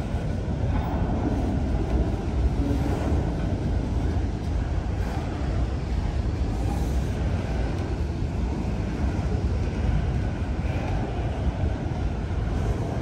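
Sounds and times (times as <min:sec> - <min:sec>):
freight train cars rolling: 0:00.0 - 0:13.0.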